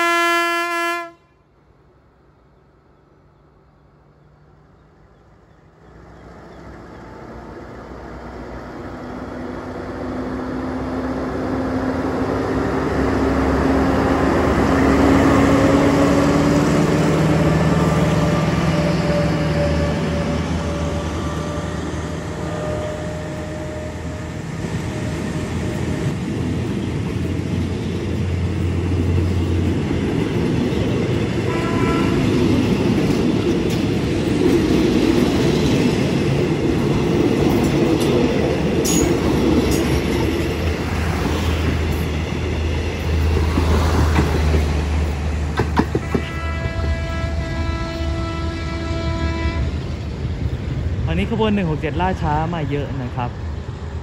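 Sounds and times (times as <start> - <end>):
diesel locomotive engine: 0.0 - 54.0.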